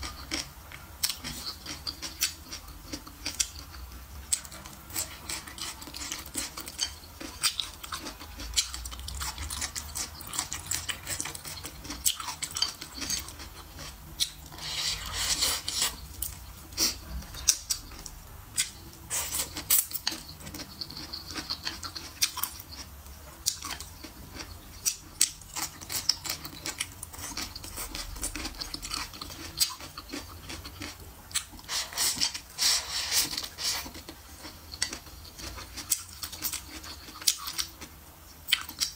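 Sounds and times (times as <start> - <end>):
chewing and slurping noodles: 0.0 - 37.8.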